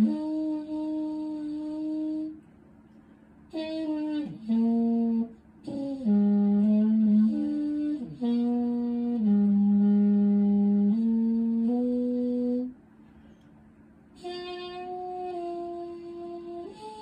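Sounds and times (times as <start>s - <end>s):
muted trumpet playing: 0.0s - 2.4s, 3.5s - 12.8s, 14.2s - 17.0s.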